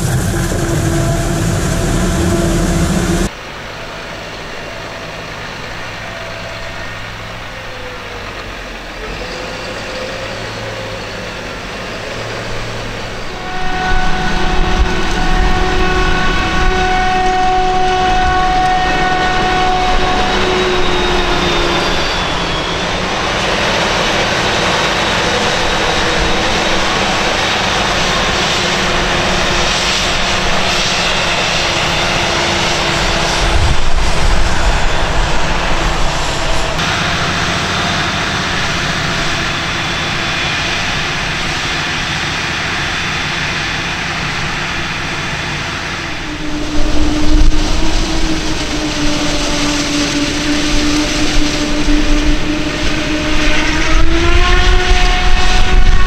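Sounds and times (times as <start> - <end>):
diesel farm machinery engine: 0.0 - 56.0.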